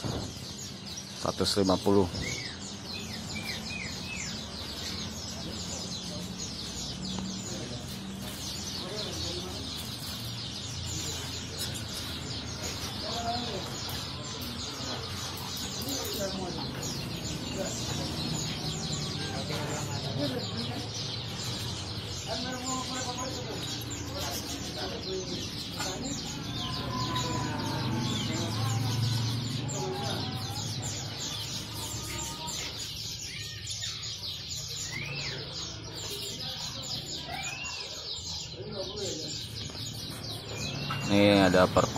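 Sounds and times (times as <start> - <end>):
songbirds chirping in chorus: 0.0 - 41.9.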